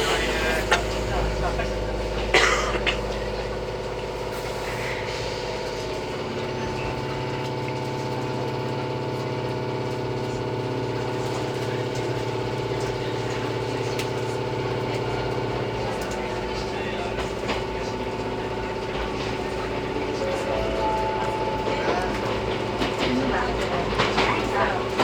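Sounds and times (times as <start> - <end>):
electric train hum and rumble: 0.0 - 25.0.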